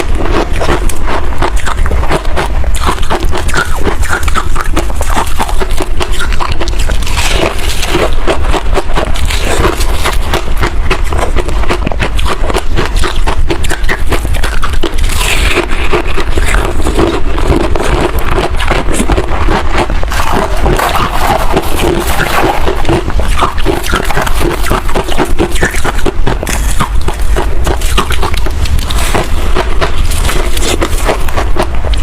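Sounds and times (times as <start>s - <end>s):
frost being chewed crunching: 0.0s - 32.0s.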